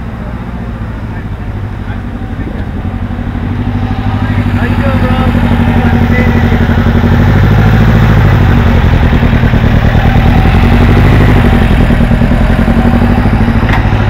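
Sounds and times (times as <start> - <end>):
vehicle engine pulsing: 0.0 - 14.0.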